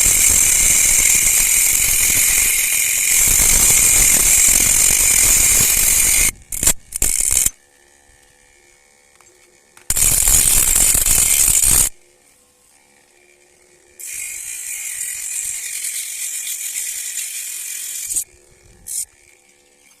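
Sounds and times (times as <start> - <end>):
angle grinder running: 0.0 - 20.0.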